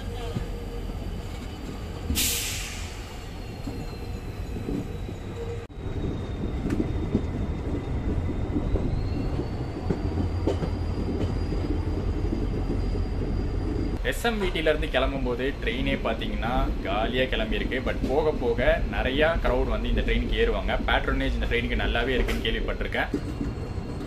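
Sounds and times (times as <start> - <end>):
high wheel squeal: 0.0 - 16.6, 17.7 - 24.0
train wheels rumbling on rails: 0.0 - 24.0.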